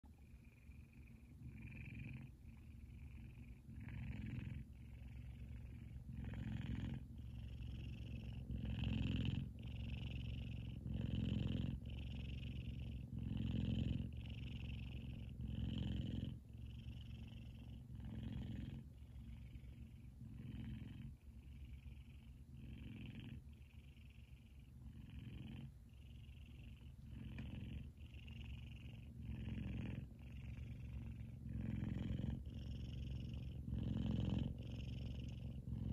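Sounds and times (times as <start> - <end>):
cat purring loudly: 0.0 - 35.9.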